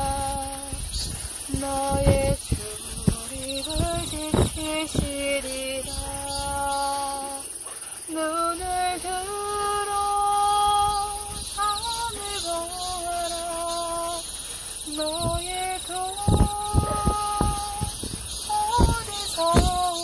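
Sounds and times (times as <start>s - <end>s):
person singing worship song: 0.0s - 20.0s.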